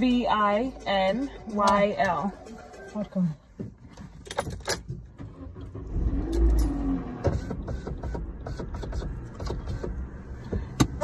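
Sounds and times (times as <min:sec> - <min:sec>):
car engine starting and running: 0:00.0 - 0:11.0.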